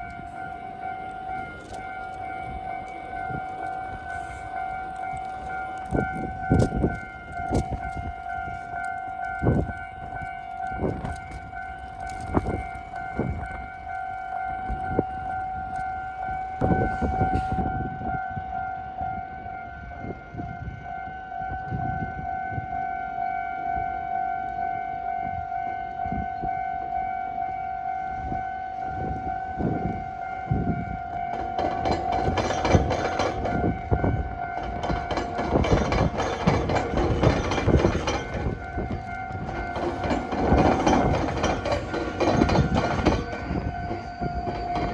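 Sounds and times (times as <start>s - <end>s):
train wheels on rails: 0.0s - 18.6s, 25.6s - 44.9s
level crossing warning tone: 0.0s - 44.9s.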